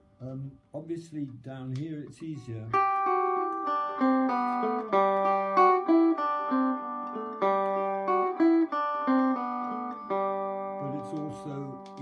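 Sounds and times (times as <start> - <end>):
banjo notes plucked: 2.2 - 12.0.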